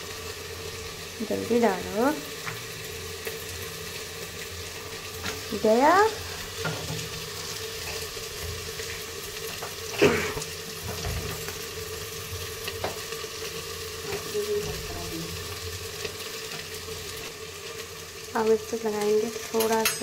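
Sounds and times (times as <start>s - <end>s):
cooking sizzle on stove: 0.0s - 20.0s.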